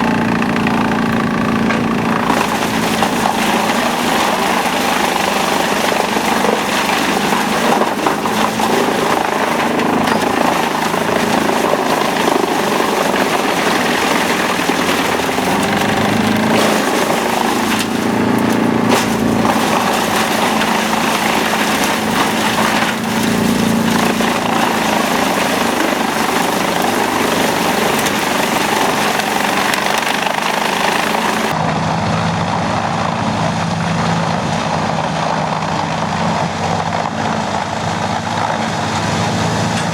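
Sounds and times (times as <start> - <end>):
low engine hum: 0.0 - 39.9
wood chipper running: 0.0 - 39.9.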